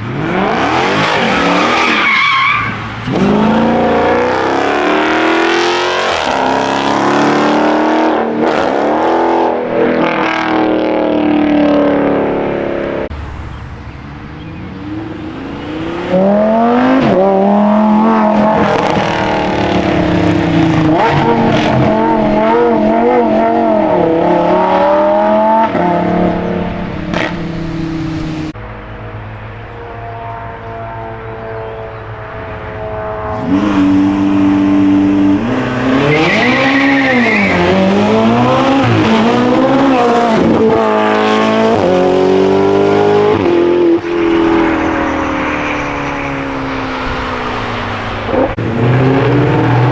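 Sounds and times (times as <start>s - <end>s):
tire squeal: 0.0s - 7.1s, 13.2s - 42.6s, 43.3s - 49.9s
car engines revving hard: 0.0s - 49.9s.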